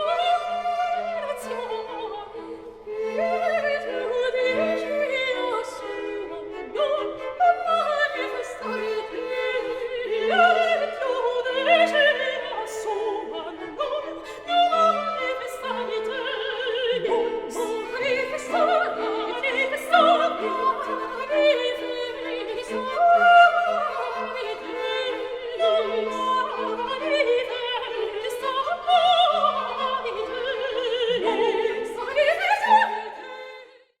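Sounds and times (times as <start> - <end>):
operatic solo singing: 0.0 - 33.5
orchestral strings: 0.0 - 34.0.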